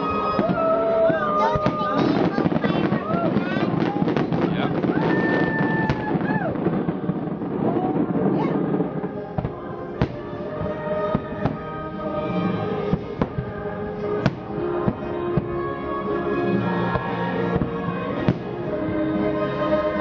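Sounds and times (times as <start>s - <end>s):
music with long held notes: 0.0s - 4.3s, 6.6s - 20.0s.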